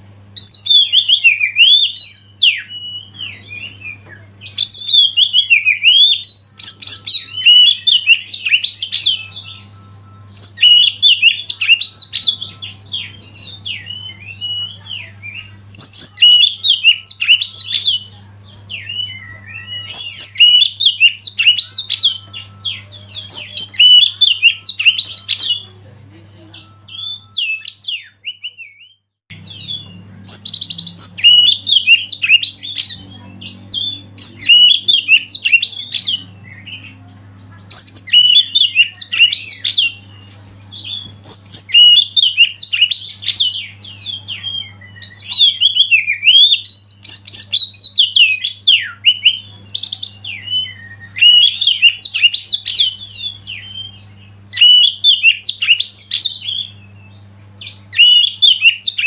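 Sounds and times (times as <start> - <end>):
low steady hum: 0.0 - 59.0
bird singing whistled phrases: 0.3 - 18.1, 18.7 - 25.7, 26.6 - 59.0.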